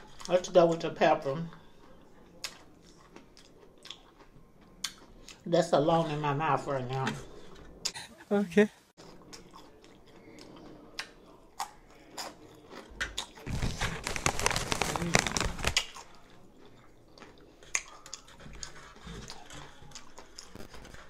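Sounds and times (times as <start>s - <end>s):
chewing and crunching: 0.0s - 8.0s, 9.0s - 21.0s.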